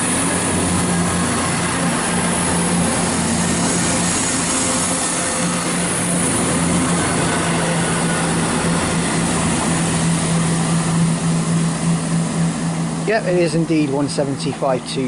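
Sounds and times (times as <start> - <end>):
diesel train drone: 0.0 - 15.0.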